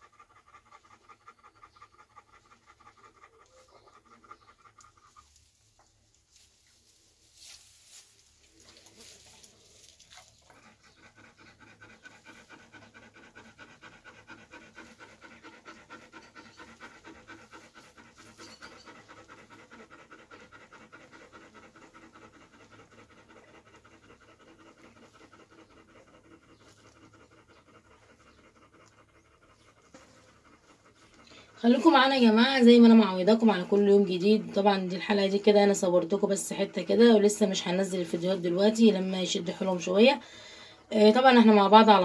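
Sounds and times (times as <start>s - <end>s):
dog panting: 0.0s - 42.0s.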